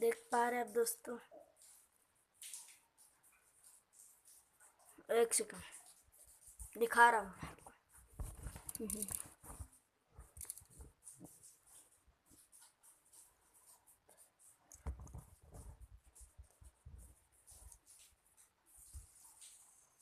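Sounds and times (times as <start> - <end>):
fidget spinner rustles and taps: 0.0 - 20.0.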